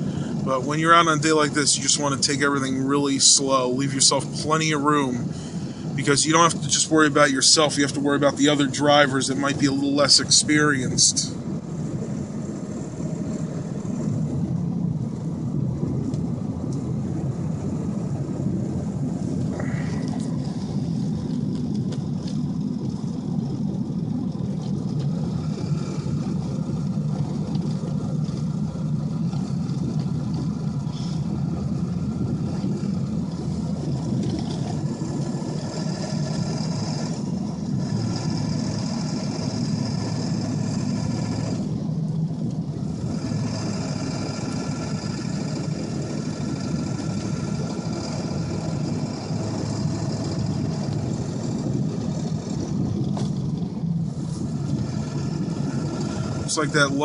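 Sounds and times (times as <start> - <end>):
engine and road noise in cab: 0.0 - 57.0.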